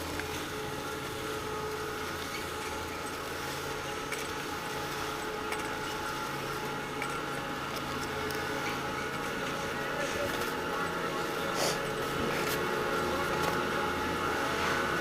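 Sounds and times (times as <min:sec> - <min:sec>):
chairlift mechanical hum: 0:00.0 - 0:15.0.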